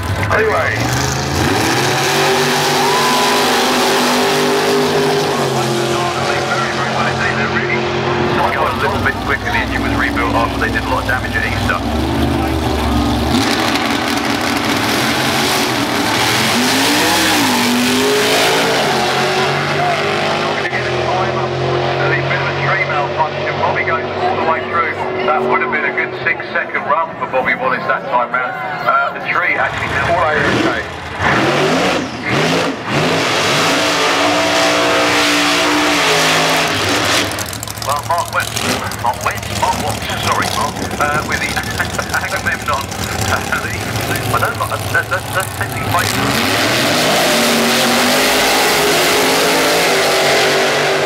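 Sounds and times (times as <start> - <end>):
tyres spinning in a burnout: 0.0 - 23.1, 29.3 - 51.0
drag racing cars accelerating: 0.0 - 51.0.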